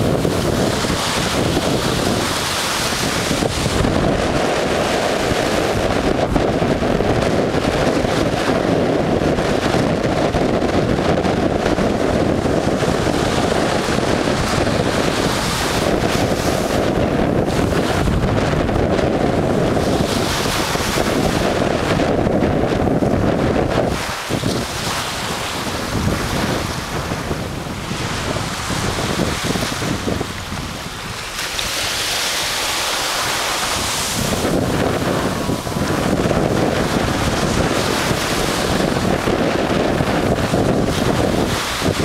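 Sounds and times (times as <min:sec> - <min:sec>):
shore waves breaking on sand: 0:00.0 - 0:42.0
wind rumbling on microphone: 0:00.0 - 0:42.0.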